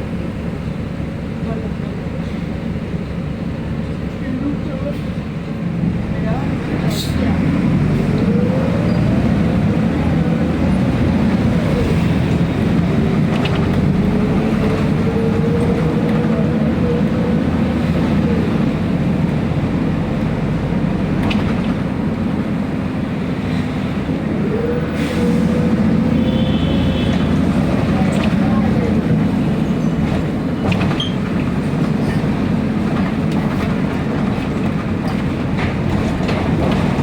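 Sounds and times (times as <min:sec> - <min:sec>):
bus engine running: 0:00.0 - 0:37.0.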